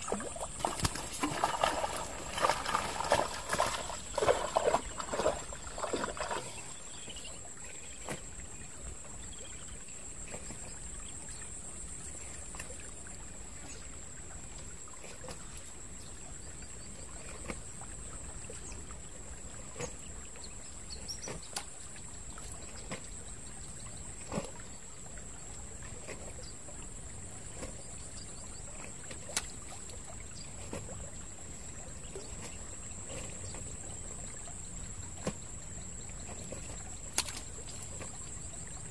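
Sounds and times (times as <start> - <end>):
pond water trickling: 0.0 - 38.9.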